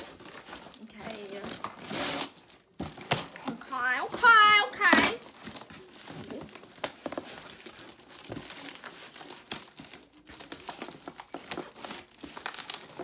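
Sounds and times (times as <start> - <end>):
cardboard crinkling and scraping: 0.0 - 13.0.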